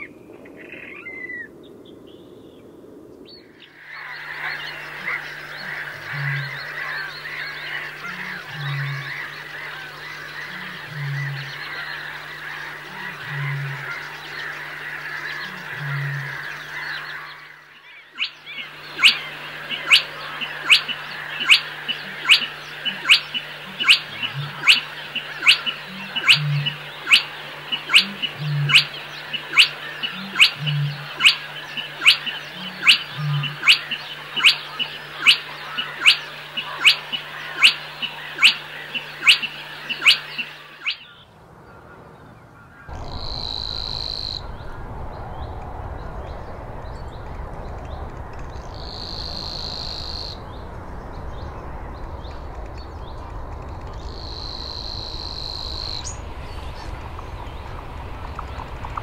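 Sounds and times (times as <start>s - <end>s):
steady low hum: 3.9s - 40.8s, 42.9s - 59.0s.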